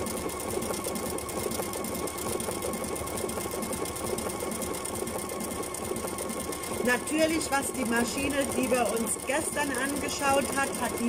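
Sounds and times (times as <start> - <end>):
sewing machine stitching: 0.0 - 11.0.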